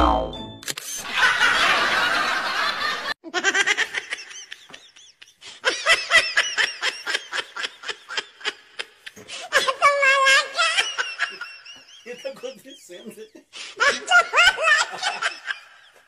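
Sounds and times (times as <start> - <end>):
people laughing: 1.0 - 16.0.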